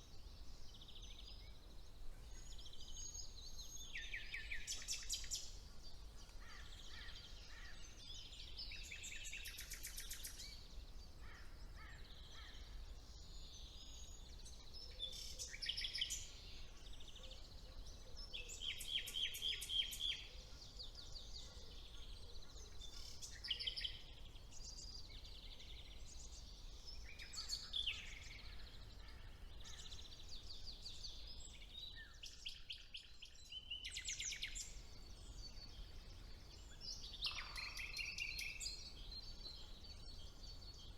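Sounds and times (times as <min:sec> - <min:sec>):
songbirds singing and trilling: 0:00.0 - 0:40.9.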